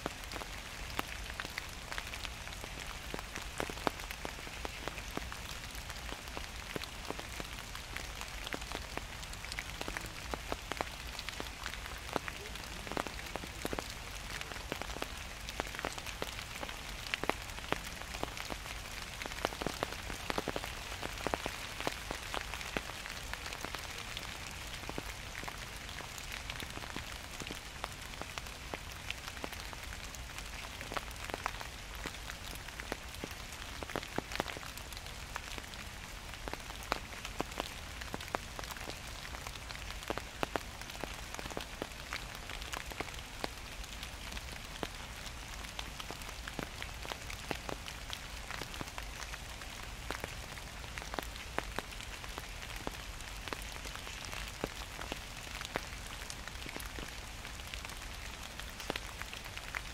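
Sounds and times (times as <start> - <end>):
raindrops ticking on surfaces: 0.0 - 59.9.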